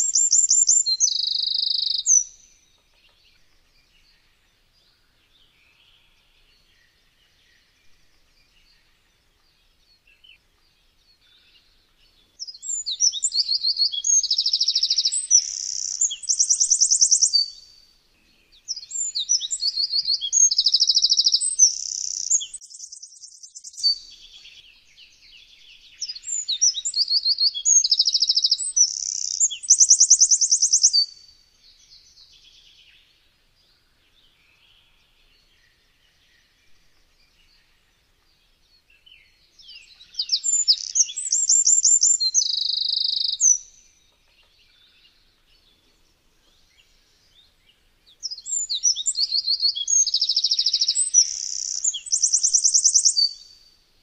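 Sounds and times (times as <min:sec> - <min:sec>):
wren singing: 0:00.0 - 0:17.9, 0:18.5 - 0:53.7.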